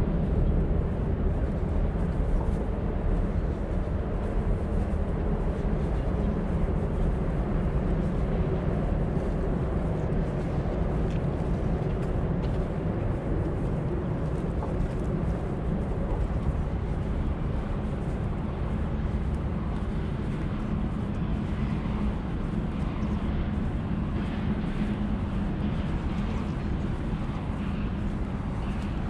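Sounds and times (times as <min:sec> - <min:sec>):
low background rumble: 0:00.0 - 0:29.0.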